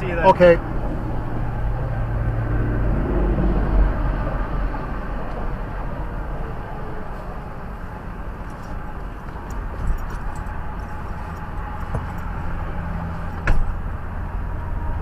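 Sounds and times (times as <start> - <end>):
freeway traffic rumble: 0.0 - 15.0.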